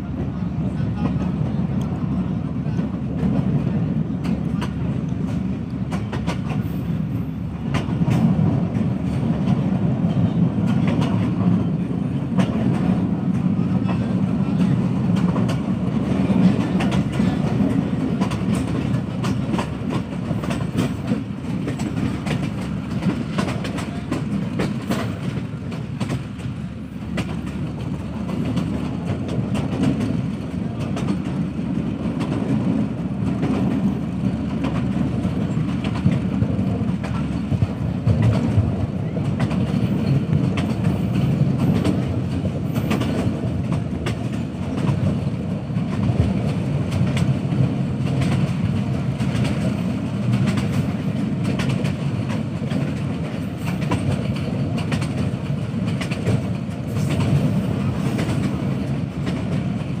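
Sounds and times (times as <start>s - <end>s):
train coaches rumbling: 0.0s - 60.0s
wheels clacking over rail joints: 7.6s - 60.0s.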